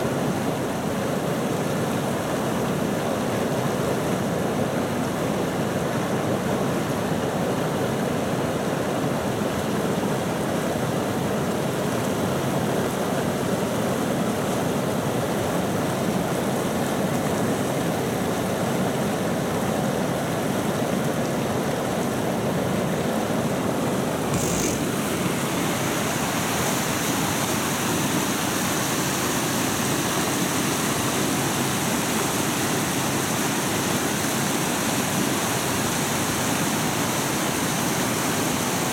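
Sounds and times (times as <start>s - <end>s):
river rushing over stones: 0.0s - 38.9s.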